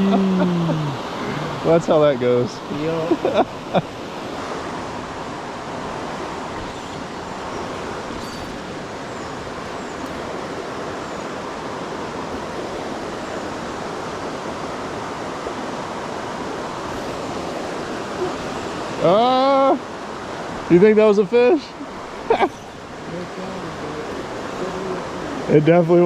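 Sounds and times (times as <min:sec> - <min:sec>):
creek rushing: 0:00.0 - 0:26.0.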